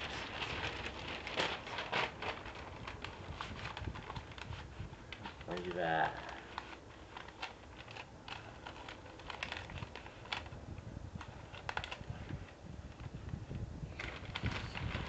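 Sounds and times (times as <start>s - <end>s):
paper wrapper crinkling: 0.0s - 10.6s, 11.2s - 12.5s, 13.9s - 15.0s.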